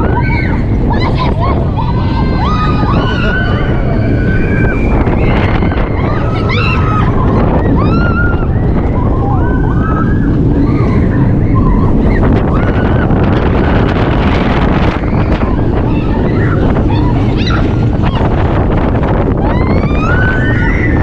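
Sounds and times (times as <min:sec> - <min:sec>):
high rising-and-falling cries: 0:00.0 - 0:21.0
roller coaster rumbling on track: 0:00.0 - 0:21.0
wind buffeting microphone: 0:00.0 - 0:21.0.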